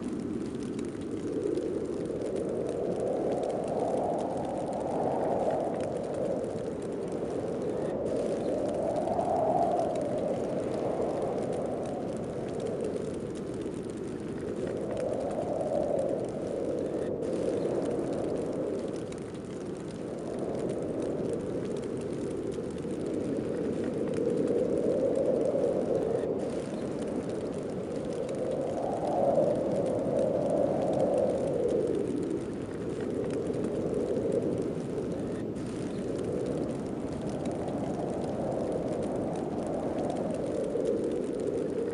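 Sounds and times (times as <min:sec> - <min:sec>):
snowstorm wind howling: 0:00.0 - 0:41.9.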